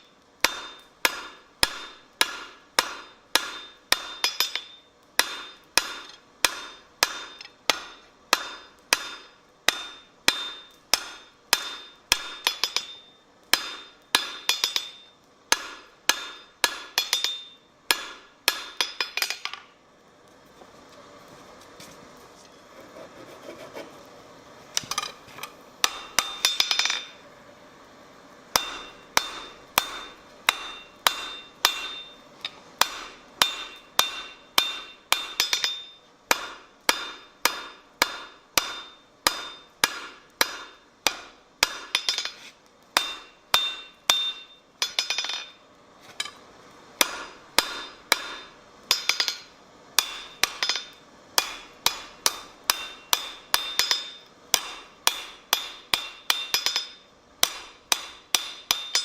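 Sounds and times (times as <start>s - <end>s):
hammer striking iron on anvil: 0.4s - 19.7s, 25.8s - 27.2s, 28.6s - 45.6s, 47.0s - 59.0s.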